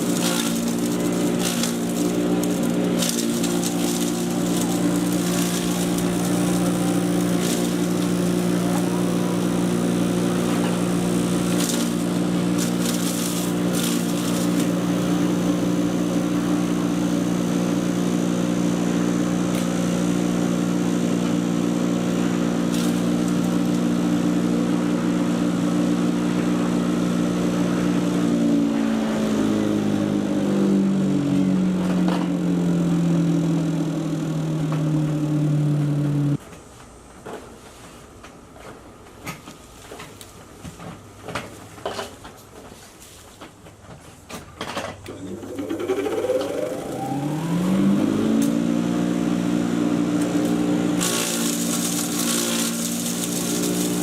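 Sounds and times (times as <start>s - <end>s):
chipper shredder motor hum: 0.0s - 36.4s, 45.0s - 54.0s
wood cracking in shredder: 0.0s - 36.4s, 44.3s - 54.0s.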